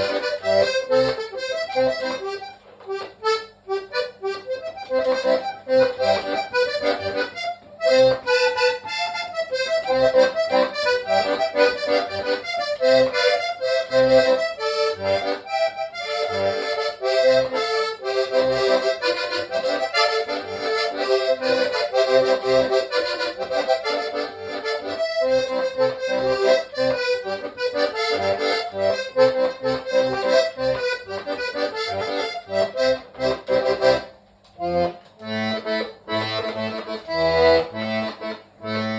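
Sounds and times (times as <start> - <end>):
button accordion playing a tune: 0.0 - 38.9.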